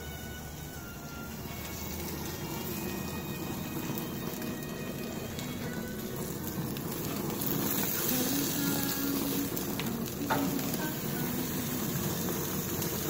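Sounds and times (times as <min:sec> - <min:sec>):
steaks sizzling on a grill: 0:00.8 - 0:13.0.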